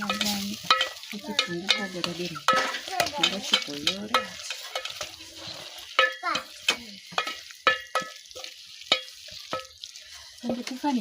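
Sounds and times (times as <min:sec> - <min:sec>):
metal utensil scraping metal pan: 0:00.0 - 0:11.0.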